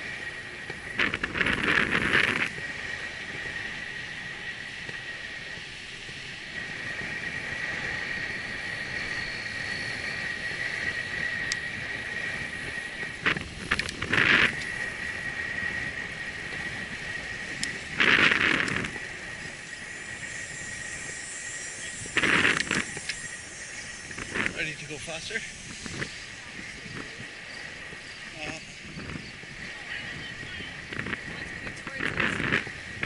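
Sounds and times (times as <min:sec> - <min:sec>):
bicycle tyre and wind noise: 0:00.0 - 0:33.0
high whine: 0:00.0 - 0:33.0.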